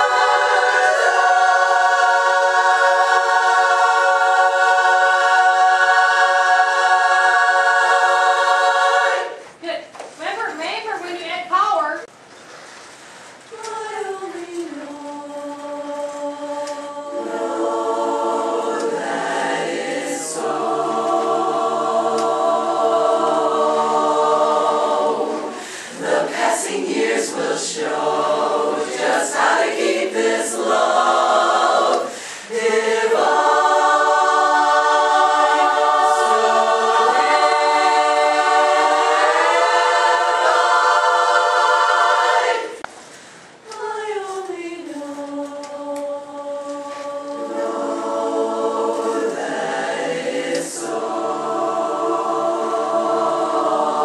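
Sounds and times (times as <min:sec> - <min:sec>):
women's chorus singing a cappella: 0:00.0 - 0:09.6, 0:13.5 - 0:42.8, 0:43.6 - 0:54.0.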